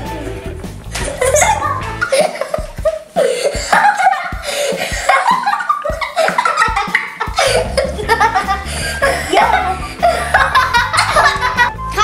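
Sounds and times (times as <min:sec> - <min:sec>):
girls laughing and giggling: 0:00.9 - 0:11.9.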